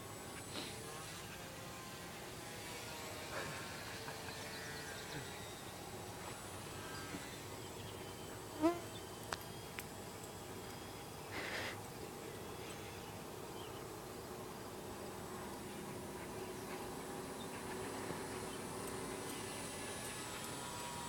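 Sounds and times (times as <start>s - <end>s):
distant model plane motor buzz: 0.0s - 21.0s.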